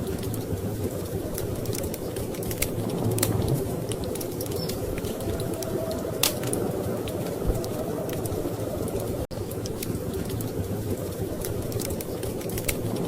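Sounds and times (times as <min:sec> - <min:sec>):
storm wind rushing: 0:00.0 - 0:13.0
wood fire crackling and popping: 0:00.0 - 0:13.0.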